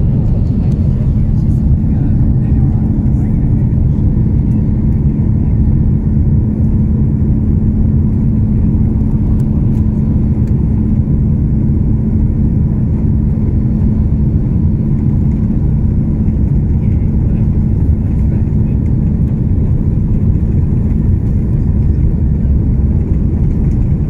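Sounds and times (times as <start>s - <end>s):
constant hum: 0.0s - 24.0s
engines and wheels rumbling: 0.0s - 24.0s.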